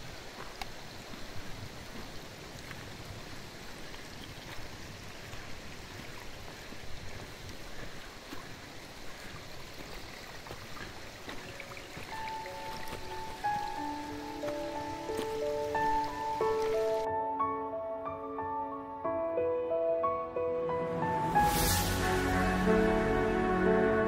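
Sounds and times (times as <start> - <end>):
stream water rushing: 0.0 - 17.1, 20.6 - 24.0.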